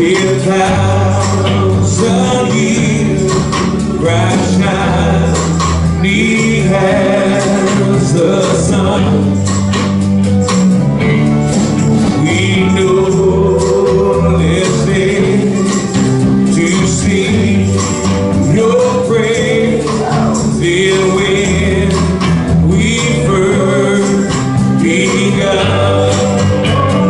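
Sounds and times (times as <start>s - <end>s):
person singing: 0.0s - 10.0s, 12.0s - 27.0s
electric guitar: 0.0s - 27.0s
live band playing: 0.0s - 27.0s.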